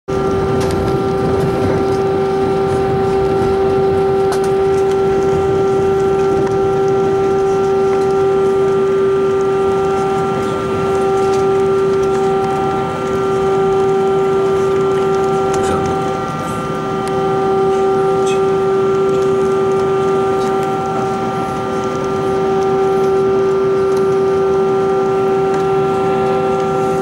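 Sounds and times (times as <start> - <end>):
jet engines humming in cabin: 0.1 - 27.0.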